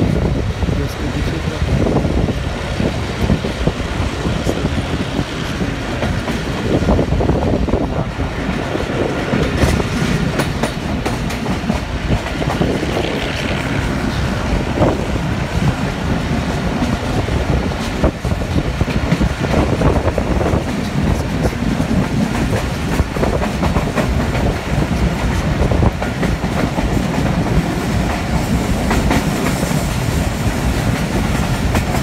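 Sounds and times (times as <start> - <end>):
irregular track clicks: 0.0 - 32.0
train wheels rolling on rail: 0.0 - 32.0.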